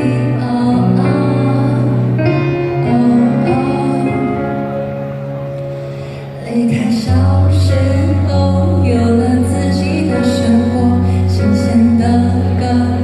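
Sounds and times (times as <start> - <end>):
woman singing pop ballad: 0.0 - 4.9, 6.0 - 13.0
instrumental accompaniment: 0.0 - 13.0.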